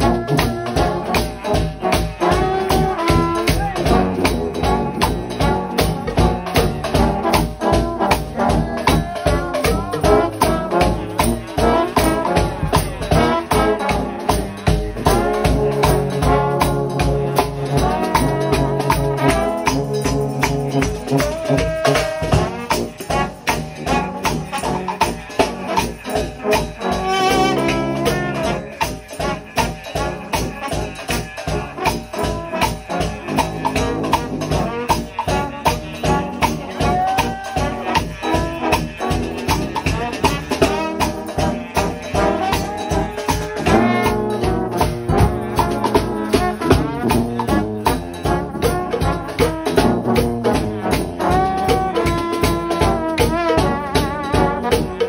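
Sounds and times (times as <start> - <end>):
drums beating fast: 0.0 - 55.0
trombones playing loud chords: 0.0 - 55.0.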